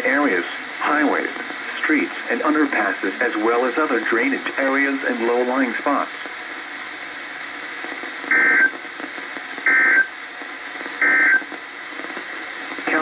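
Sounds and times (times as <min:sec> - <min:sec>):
faint radio hiss: 0:00.0 - 0:13.0.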